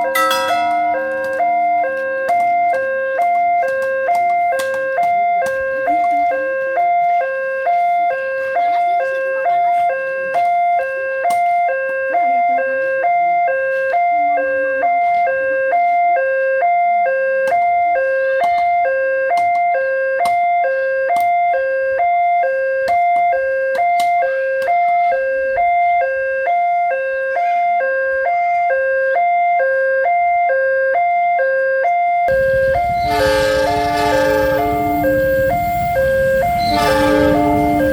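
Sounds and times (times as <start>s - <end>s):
two-tone warning siren: 0.0s - 37.9s.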